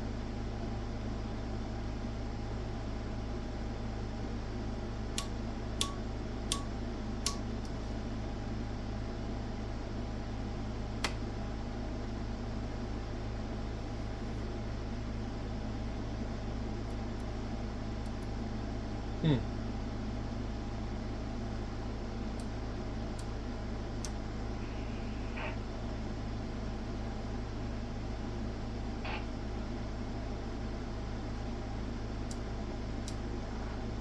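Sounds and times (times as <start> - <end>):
electrical hum and fan whir: 0.0 - 34.0.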